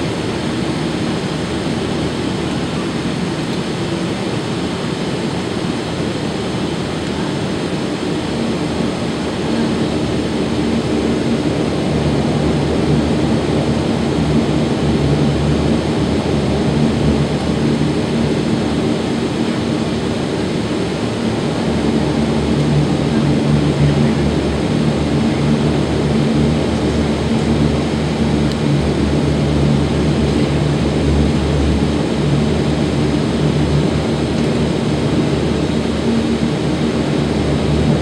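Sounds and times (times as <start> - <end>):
turboprop engines humming: 0.0 - 38.0.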